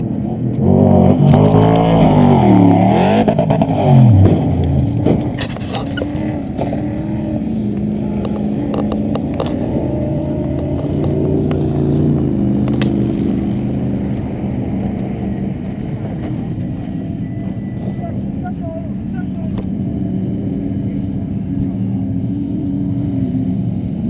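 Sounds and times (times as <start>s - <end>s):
truck engine running: 1.4s - 24.0s.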